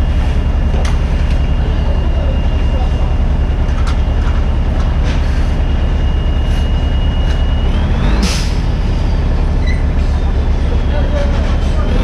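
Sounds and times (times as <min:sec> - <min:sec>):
high whine rising in pitch: 0:00.0 - 0:11.0
diesel engine running: 0:00.0 - 0:12.0.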